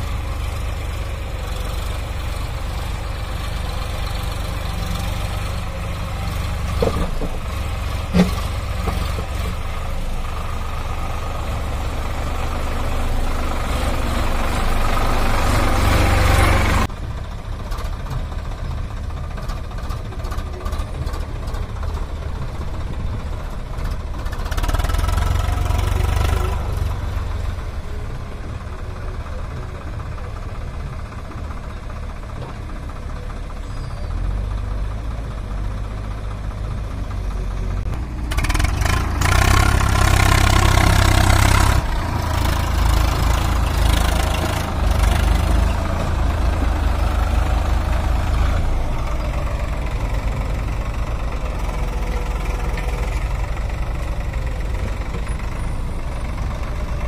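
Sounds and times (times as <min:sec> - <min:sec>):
tractor diesel engine working hard: 0:00.0 - 0:57.0.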